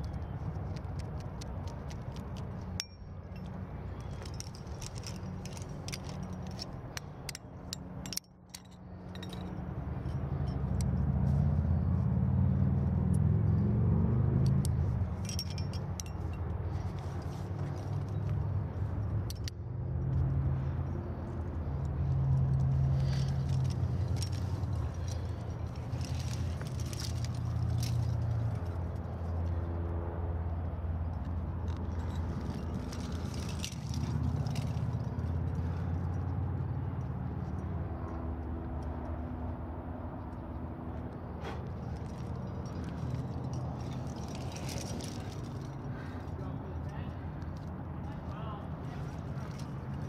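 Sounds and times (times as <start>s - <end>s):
carabiners clinking: 0.0s - 12.1s, 12.8s - 29.7s, 31.0s - 38.2s, 41.4s - 50.0s
steady low rumble: 0.0s - 50.0s.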